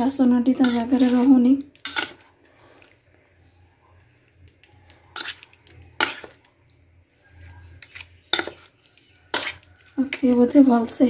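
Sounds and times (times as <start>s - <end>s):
soft mixing: 0.0s - 11.0s.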